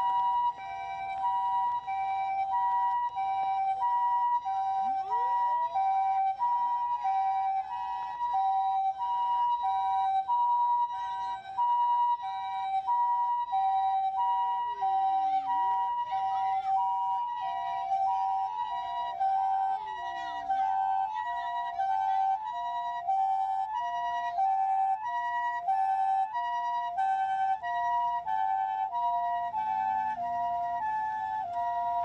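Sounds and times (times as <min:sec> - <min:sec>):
two-tone hi-lo siren: 0:00.0 - 0:32.0
wailing fire engine siren: 0:00.0 - 0:32.0.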